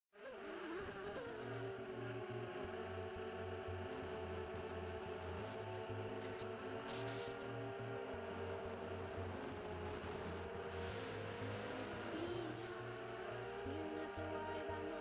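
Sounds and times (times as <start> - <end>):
quadcopter motors whining: 0.2 - 15.0.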